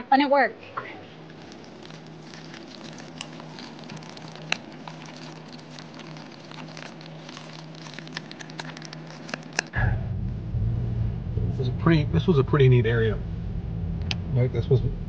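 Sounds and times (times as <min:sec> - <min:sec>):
low hum of room noise: 0:00.0 - 0:15.0.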